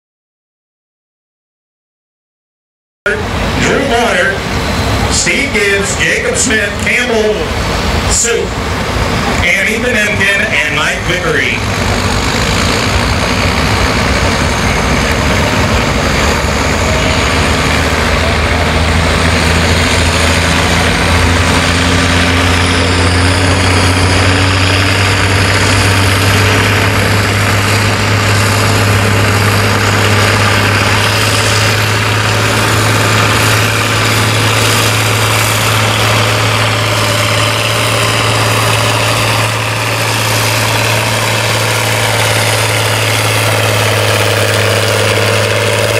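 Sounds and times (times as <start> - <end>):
tractor diesel engine under load: 3.1 - 45.9.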